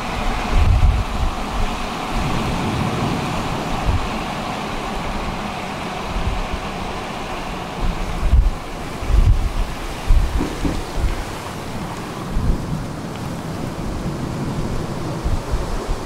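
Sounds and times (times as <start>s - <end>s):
car road noise hiss: 0.0s - 16.0s
wind buffeting rumble: 0.0s - 16.0s.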